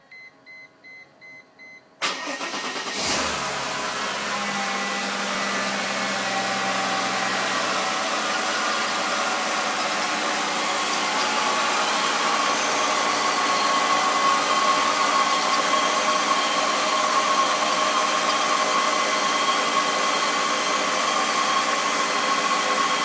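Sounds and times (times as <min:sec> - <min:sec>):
electric fan running: 0:02.8 - 0:23.0.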